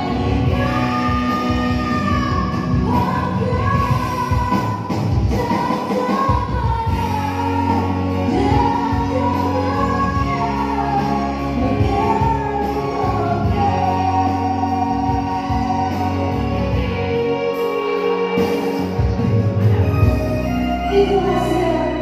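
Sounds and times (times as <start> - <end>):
instrumental accompaniment: 0.0 - 22.0
person singing: 0.0 - 22.0.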